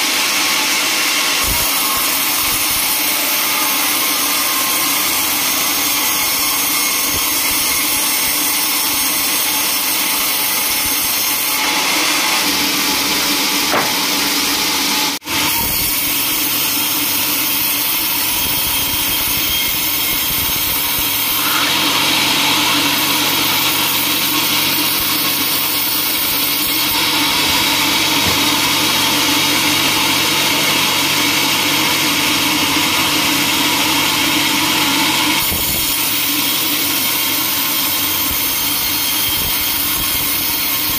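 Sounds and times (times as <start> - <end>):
sawmill machine hum: 0.0 - 40.9.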